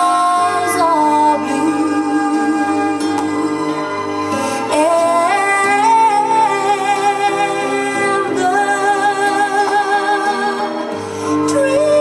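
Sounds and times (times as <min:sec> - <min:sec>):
stage show accompaniment: 0:00.0 - 0:12.0.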